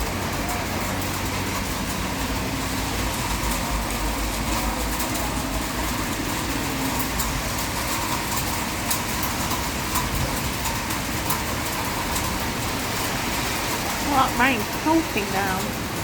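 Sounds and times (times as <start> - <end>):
heavy rain: 0.0 - 16.0
raindrops ticking close by: 0.0 - 16.0.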